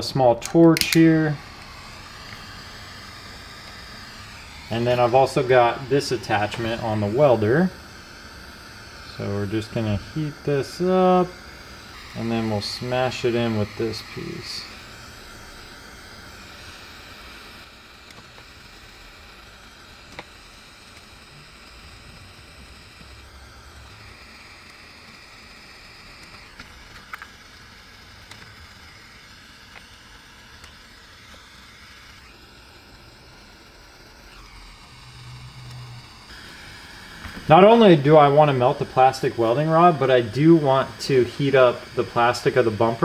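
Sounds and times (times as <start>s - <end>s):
torch hissing: 0.0s - 43.0s.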